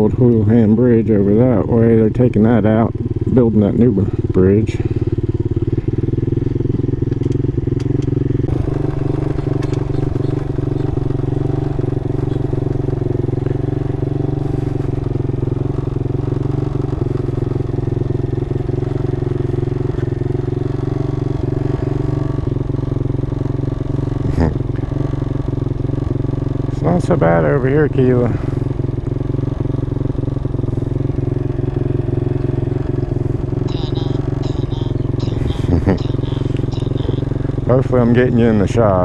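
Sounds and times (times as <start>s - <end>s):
motorcycle engines running: 0.0s - 39.0s.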